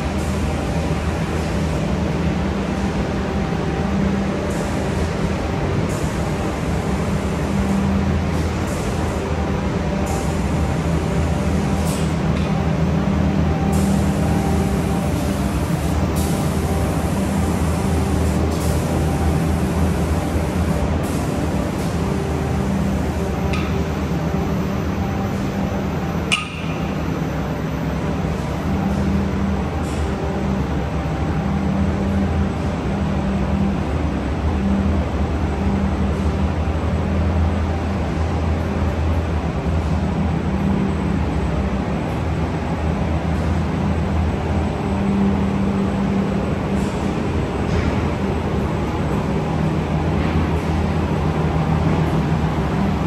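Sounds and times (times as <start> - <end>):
industrial machinery hum: 0.0 - 53.0.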